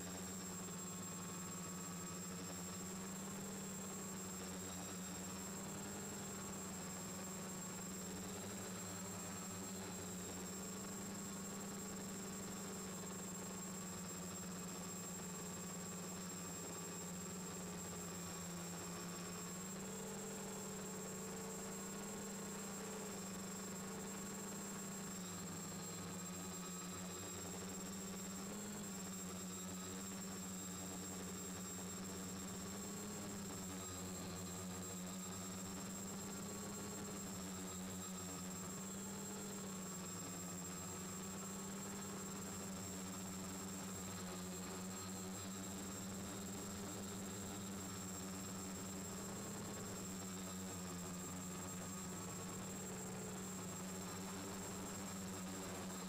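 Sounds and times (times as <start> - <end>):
muffled quadcopter motor hum: 0.0 - 56.0.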